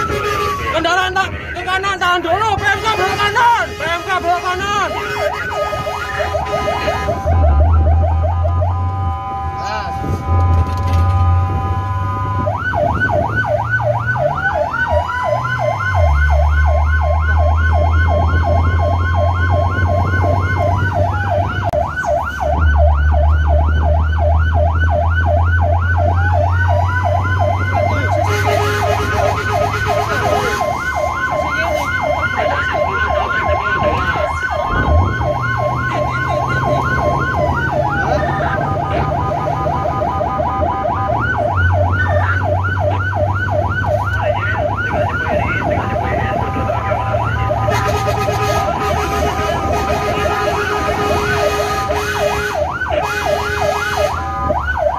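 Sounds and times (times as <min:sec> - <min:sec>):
gliding siren tone: 0:00.0 - 0:54.9
siren yelp: 0:00.0 - 0:54.9.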